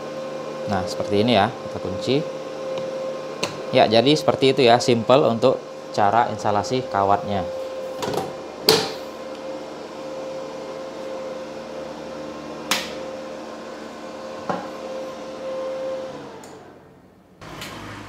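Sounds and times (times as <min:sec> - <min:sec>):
cooling fan running: 0:00.0 - 0:18.0.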